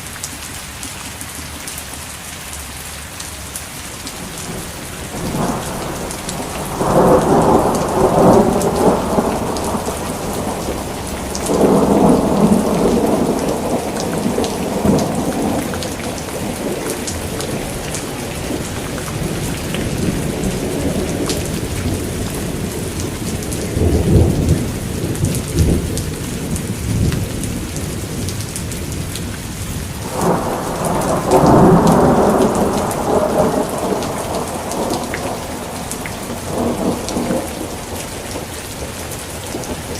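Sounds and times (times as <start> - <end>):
steady rain falling: 0.0 - 39.9
thunder rolling: 4.2 - 29.3, 30.0 - 39.9.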